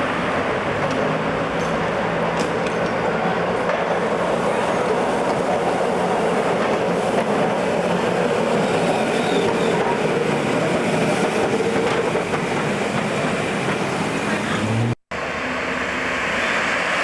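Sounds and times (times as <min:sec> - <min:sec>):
tram wheels running on rails: 0:00.0 - 0:17.0.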